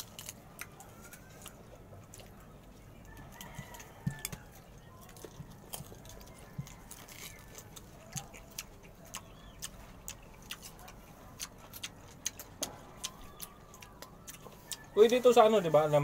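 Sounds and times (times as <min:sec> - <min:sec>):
chewing crunches: 0:00.0 - 0:16.0.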